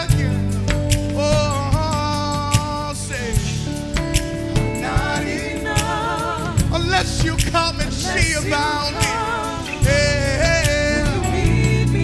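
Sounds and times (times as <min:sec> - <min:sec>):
instrumental accompaniment: 0:00.0 - 0:12.0
vocal group singing gospel: 0:00.0 - 0:12.0.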